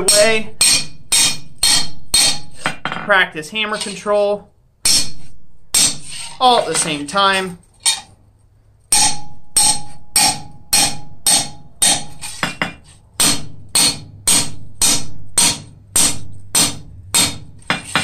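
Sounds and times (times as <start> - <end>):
hammer striking steel on anvil: 0.0 - 3.1, 4.8 - 7.1, 8.9 - 18.0.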